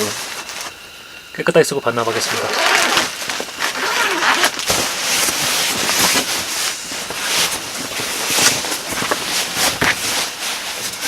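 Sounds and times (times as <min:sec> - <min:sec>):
nylon gear rustling: 0:02.1 - 0:11.0.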